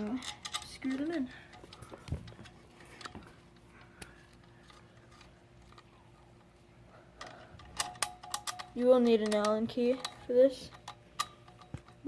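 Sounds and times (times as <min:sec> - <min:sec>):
small metal parts clicking: 0:00.0 - 0:05.9, 0:07.2 - 0:12.0.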